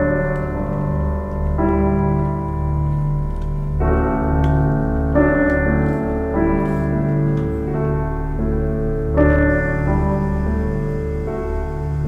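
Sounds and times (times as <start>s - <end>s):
keyboard chords: 0.0s - 12.0s.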